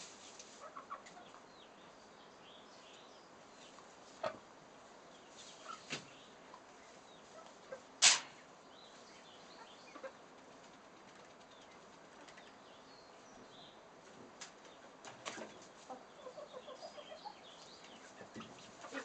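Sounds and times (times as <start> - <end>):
faint chicken calls: 0.0 - 2.2, 3.6 - 8.0, 8.9 - 12.6, 13.3 - 19.0.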